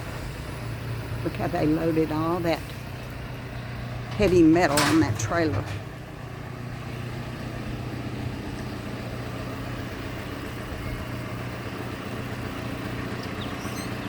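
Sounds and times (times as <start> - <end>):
large machine engine humming: 0.0 - 14.0.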